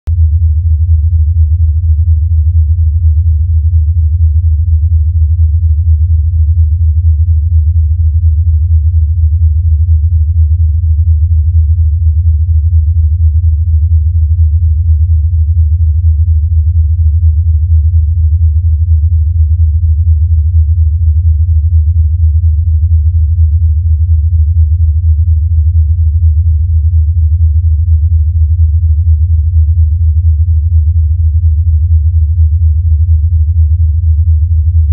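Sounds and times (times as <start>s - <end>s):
low hum with fast flutter: 0.1s - 34.9s.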